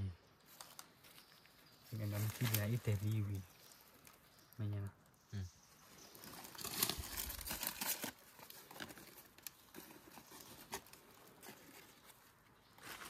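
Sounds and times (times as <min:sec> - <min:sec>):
dry leaves rustling: 0:00.4 - 0:04.6, 0:05.8 - 0:13.0.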